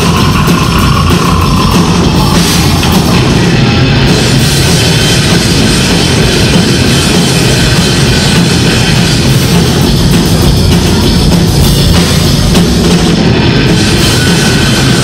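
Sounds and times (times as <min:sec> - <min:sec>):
distorted guitars and bass: 0:00.0 - 0:15.0
fast dense drumming: 0:00.0 - 0:15.0.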